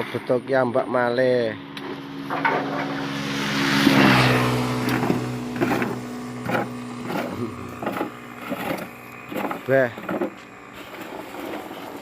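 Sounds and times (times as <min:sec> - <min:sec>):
old truck engine running: 0:01.3 - 0:12.0.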